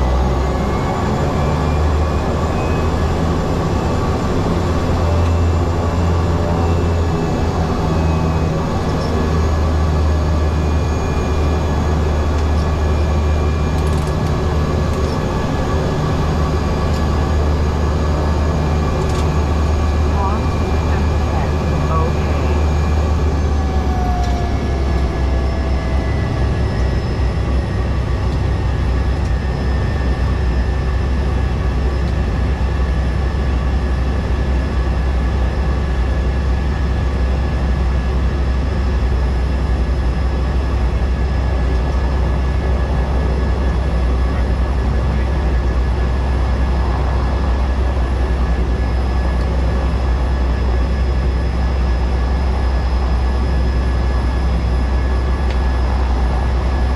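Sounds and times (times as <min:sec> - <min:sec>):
turboprop engine droning: 0:00.0 - 0:56.9.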